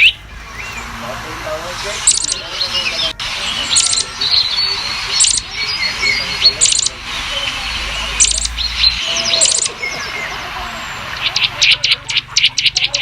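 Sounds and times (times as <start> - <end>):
rapid high bird chirps: 0.0 - 13.0
thin whistled bird calls: 0.0 - 13.0.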